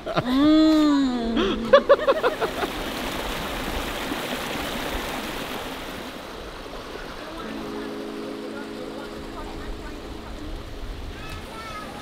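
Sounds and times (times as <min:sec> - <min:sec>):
river flowing over rocks: 0:01.9 - 0:12.0.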